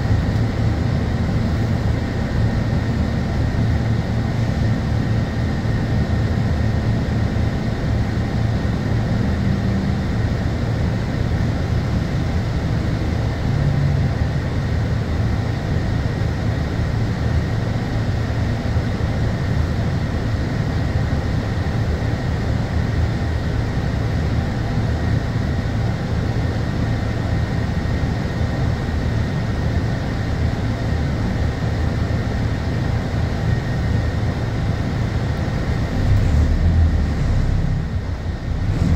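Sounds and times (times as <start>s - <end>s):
bus diesel engine idling: 0.0s - 38.9s.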